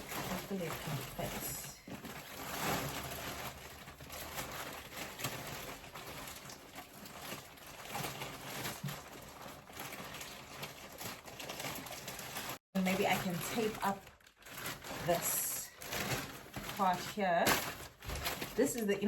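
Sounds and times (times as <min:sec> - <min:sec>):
plastic bag rustling: 0:00.0 - 0:19.0.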